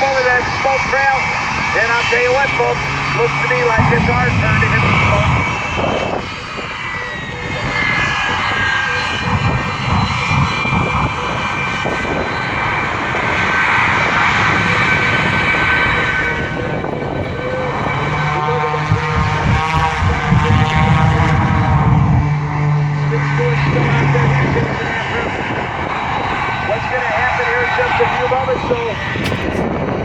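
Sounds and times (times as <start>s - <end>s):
propeller airplane engine running hard: 0.0s - 30.0s.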